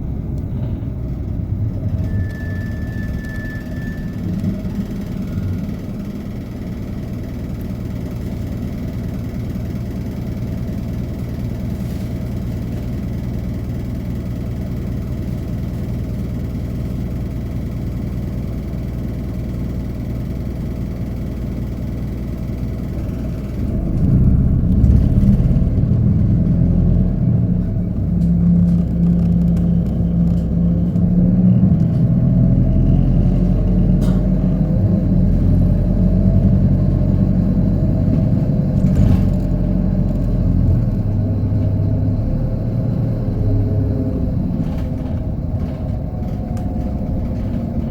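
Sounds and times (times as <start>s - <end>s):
road noise: 0.0s - 16.7s, 21.4s - 47.9s
bus diesel engine: 0.0s - 47.9s.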